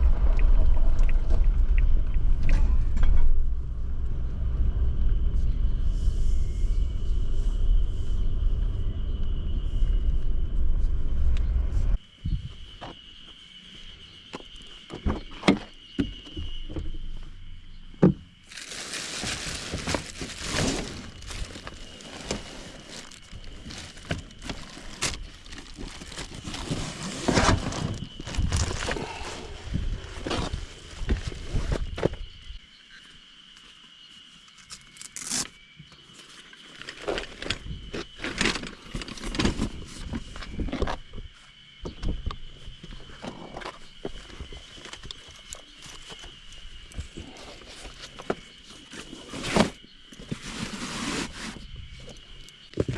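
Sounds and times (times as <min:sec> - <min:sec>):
cicadas droning: 0:00.0 - 0:52.9.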